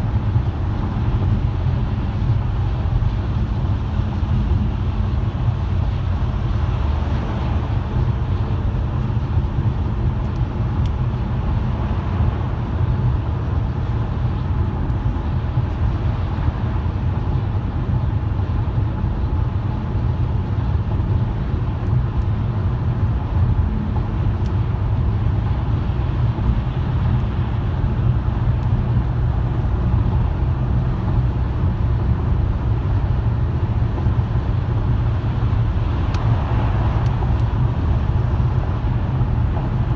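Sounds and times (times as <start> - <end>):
car driving road rumble: 0.0 - 39.9.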